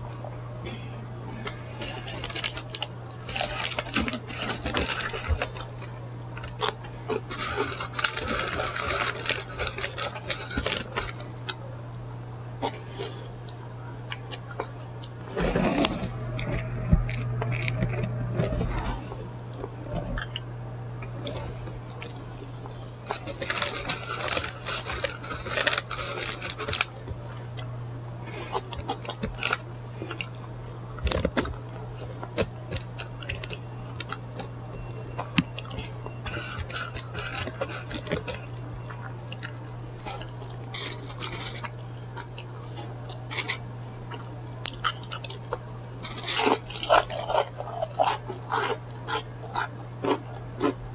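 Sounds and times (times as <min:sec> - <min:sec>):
steady low hum: 0:00.0 - 0:50.9
food crunching: 0:00.2 - 0:50.9
chewing and biting food: 0:01.4 - 0:11.9, 0:12.6 - 0:50.9.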